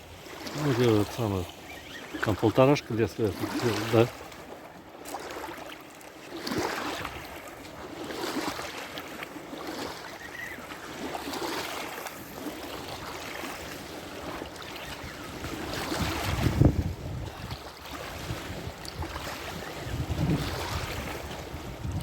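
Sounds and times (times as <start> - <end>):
river water lapping and splashing: 0.0 - 22.0.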